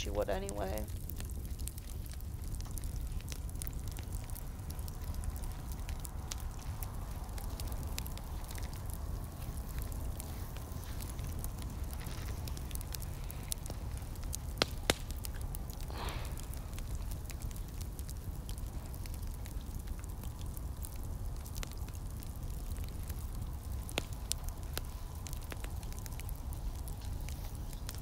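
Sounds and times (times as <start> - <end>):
fire crackling: 0.0 - 28.0
steady low rumble: 0.0 - 28.0.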